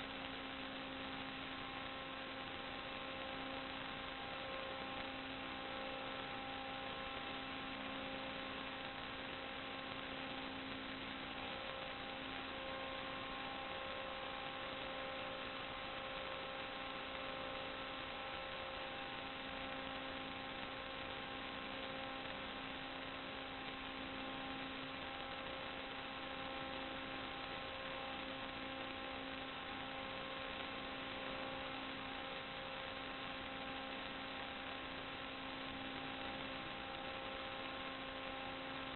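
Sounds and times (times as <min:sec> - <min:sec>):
electrical hum and hiss: 0:00.0 - 0:38.9.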